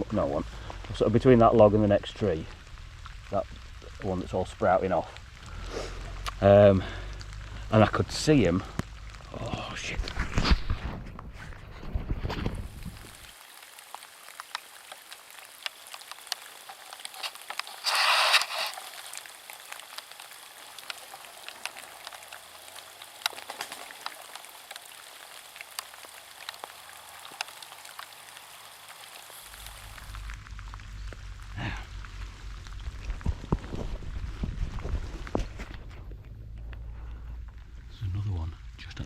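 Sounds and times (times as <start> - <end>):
rain falling: 0.0 - 39.0
raindrops ticking: 0.0 - 39.0.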